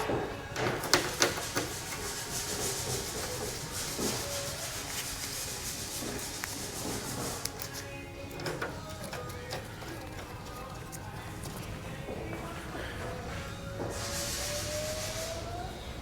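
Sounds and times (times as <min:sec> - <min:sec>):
steady rubbing or scraping: 0:00.0 - 0:15.4.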